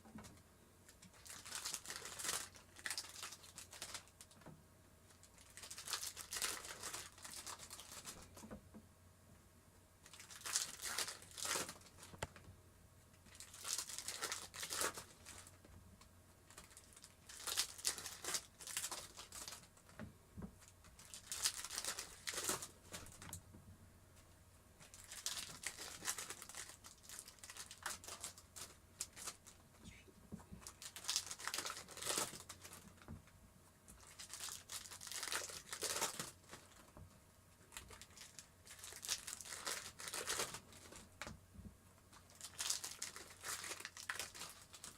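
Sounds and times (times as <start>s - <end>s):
plastic wrappers crinkling and tearing: 0.1s - 4.4s, 5.1s - 8.5s, 10.0s - 12.5s, 13.2s - 15.7s, 16.4s - 20.0s, 20.6s - 23.4s, 24.8s - 29.7s, 30.6s - 33.1s, 33.9s - 41.4s, 42.1s - 44.9s.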